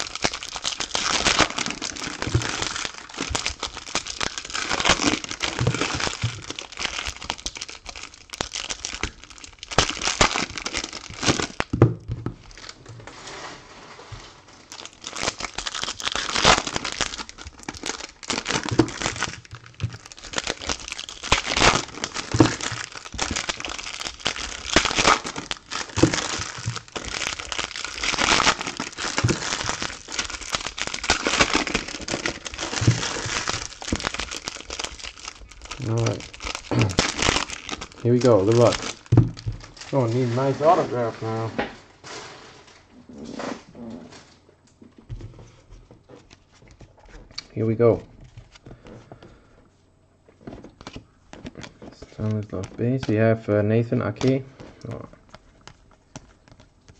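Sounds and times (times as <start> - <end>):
foil wrappers tearing and crumpling: 0.0 - 13.4, 14.4 - 41.4, 50.8 - 53.2, 54.0 - 56.9.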